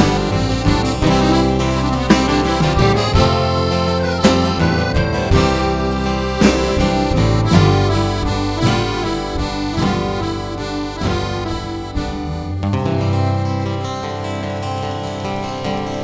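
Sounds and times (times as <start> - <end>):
drum strikes: 0.0 - 13.6
accordion melody: 0.0 - 16.0
live band playing: 0.0 - 16.0.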